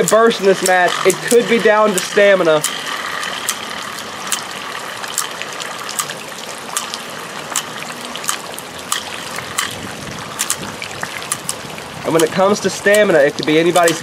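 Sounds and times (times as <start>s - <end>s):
sharp ticks: 0.0s - 14.0s
steady rain falling: 0.0s - 14.0s.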